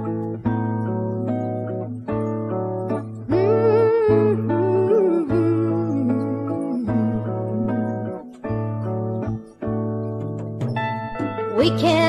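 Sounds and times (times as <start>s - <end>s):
guitar chords strummed: 0.0s - 12.0s.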